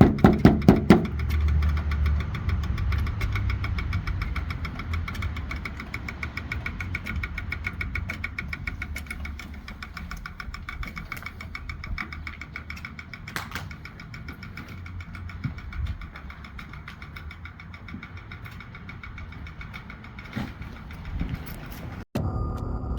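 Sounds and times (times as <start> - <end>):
fast even ticking: 0.0 - 22.1
vehicle engine idling: 0.0 - 22.1.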